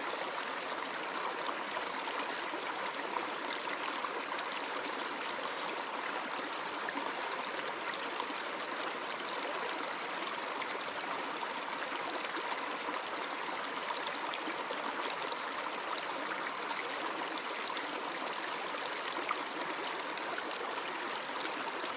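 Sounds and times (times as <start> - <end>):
flowing water: 0.0 - 21.9.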